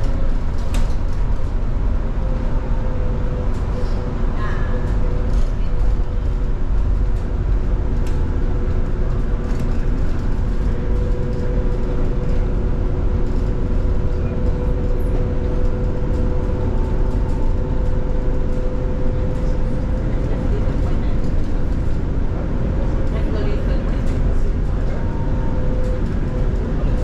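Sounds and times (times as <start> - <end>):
bus road rumble: 0.0 - 27.0.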